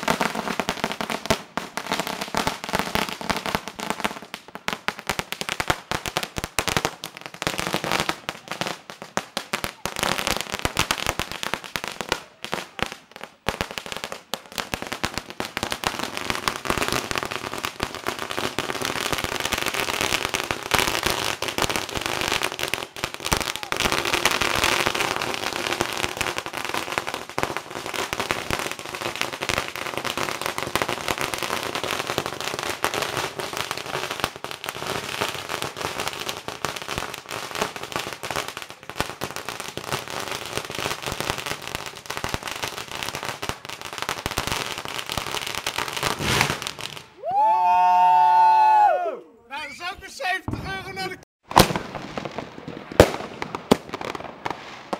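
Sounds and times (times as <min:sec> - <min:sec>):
firecrackers banging and crackling: 0:00.0 - 0:48.4, 0:49.6 - 0:54.9.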